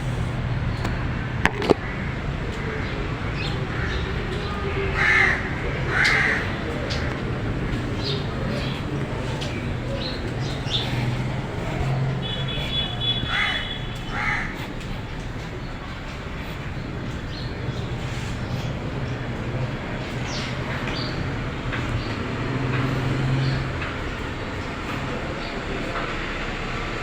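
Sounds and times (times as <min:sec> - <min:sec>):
steady low hum: 0:00.0 - 0:26.0
crows cawing: 0:01.6 - 0:25.6.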